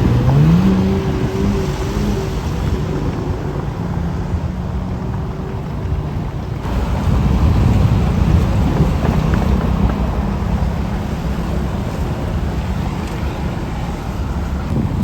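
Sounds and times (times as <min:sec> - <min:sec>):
large vehicle engine rumbling: 0:00.0 - 0:15.0
wind buffeting microphone: 0:00.0 - 0:15.0.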